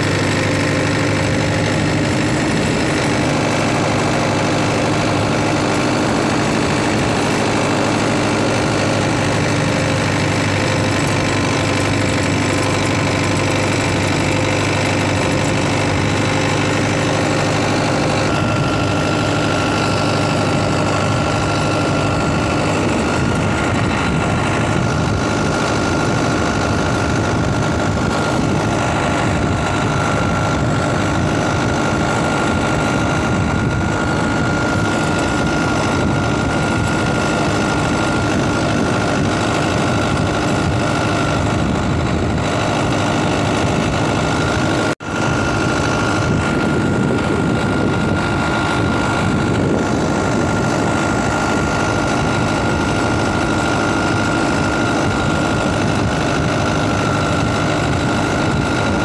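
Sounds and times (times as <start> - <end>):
constant high whine: 0.0 - 59.0
engine idling: 0.0 - 59.0.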